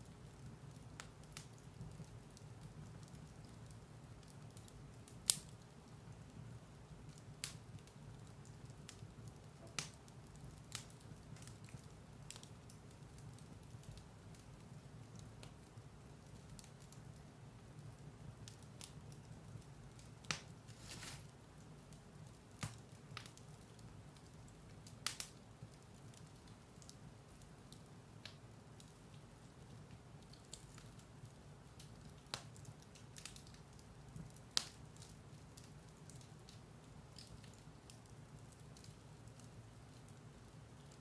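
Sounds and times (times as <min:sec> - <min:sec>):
firewood burning and crackling: 0:00.0 - 0:41.0.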